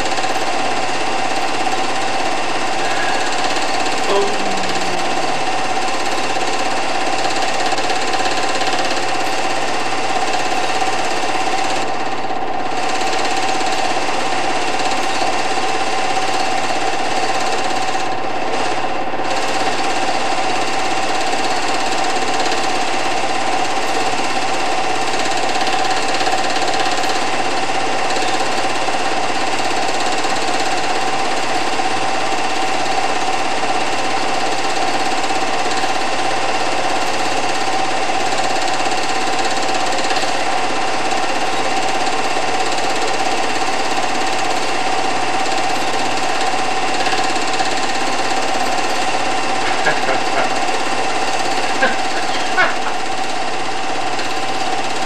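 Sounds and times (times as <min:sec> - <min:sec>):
film projector clattering: 0:00.0 - 0:55.0
projector whine: 0:00.0 - 0:55.0.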